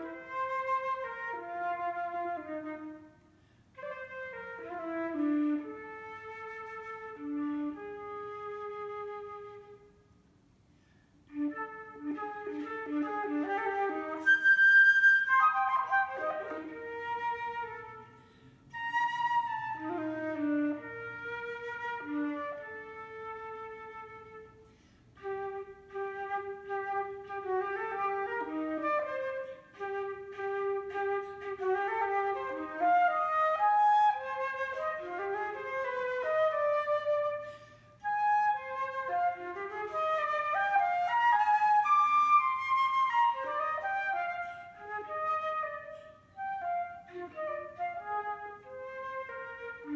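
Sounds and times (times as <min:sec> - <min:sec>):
solo flute melody: 0:00.0 - 0:49.9.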